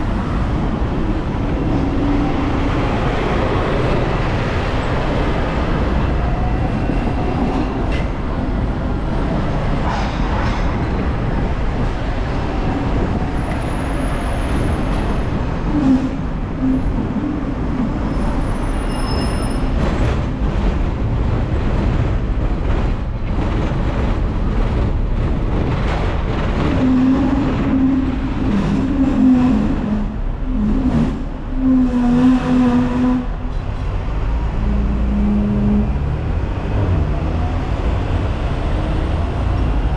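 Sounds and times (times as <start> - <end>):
tram rumbling on tracks: 0.0 - 39.9.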